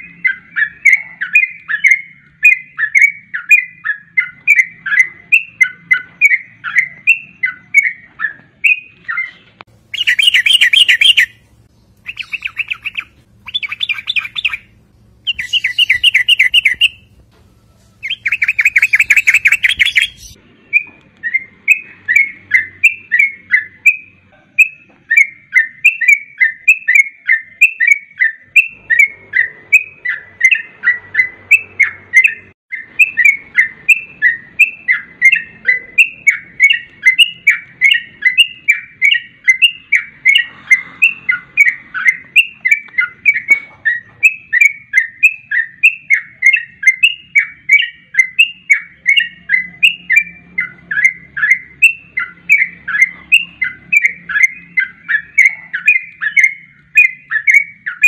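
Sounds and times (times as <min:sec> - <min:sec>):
bulbul singing chirping song: 0:00.0 - 0:58.0.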